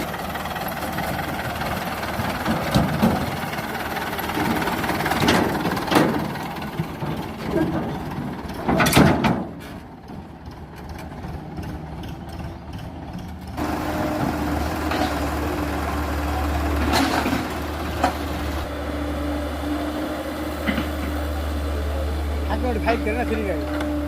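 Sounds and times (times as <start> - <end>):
heavy vehicle engine hum: 0.0 - 24.0.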